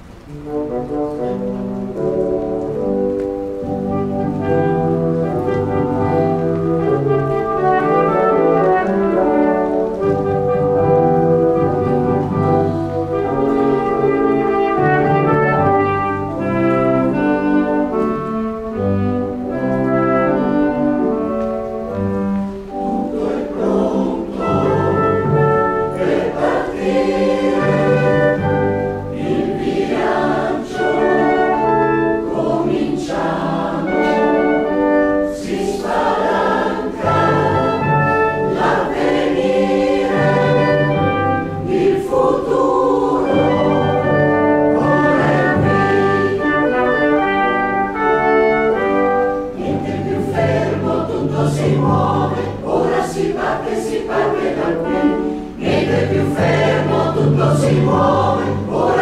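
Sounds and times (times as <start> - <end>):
instrumental ensemble and keyboard: 0.0 - 59.0
choir singing: 2.9 - 59.0.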